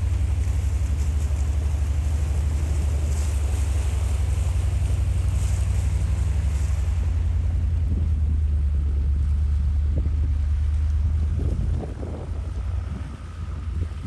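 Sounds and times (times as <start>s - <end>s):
engine low drone: 0.0s - 14.0s.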